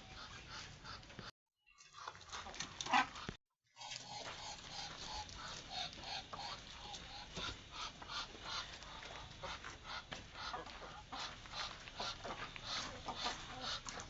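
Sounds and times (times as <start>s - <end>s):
chickens and ducks calling: 0.0s - 14.0s.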